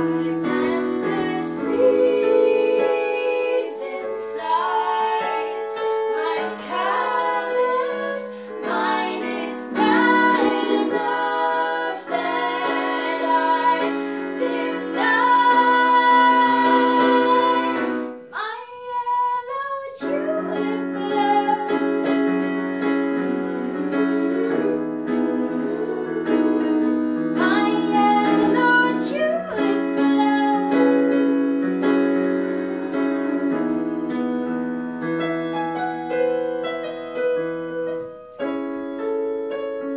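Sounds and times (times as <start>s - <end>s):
electronic keyboard piano: 0.0s - 18.3s, 20.0s - 39.9s.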